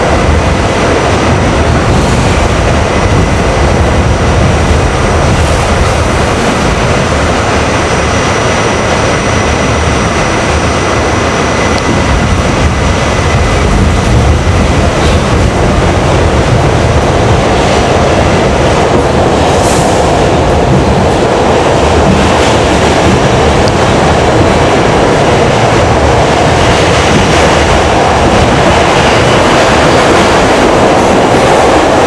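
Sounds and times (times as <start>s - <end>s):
subway wheels rumbling on track: 0.0s - 32.0s.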